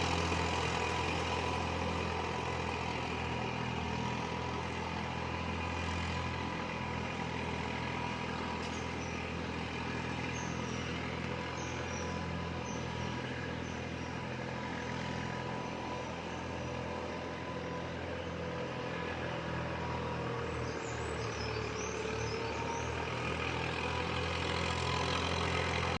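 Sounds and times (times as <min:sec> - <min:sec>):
small engine humming: 0:00.0 - 0:26.0.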